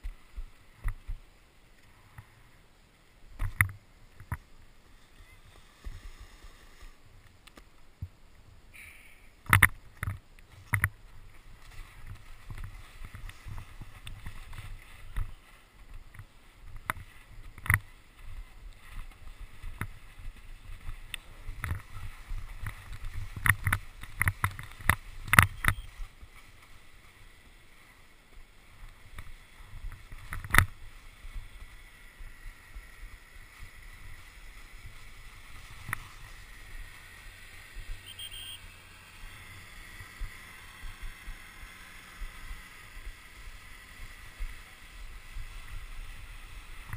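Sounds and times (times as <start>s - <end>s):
snowboard scraping over slushy snow: 4.9s - 7.2s, 10.5s - 38.1s, 38.8s - 46.9s.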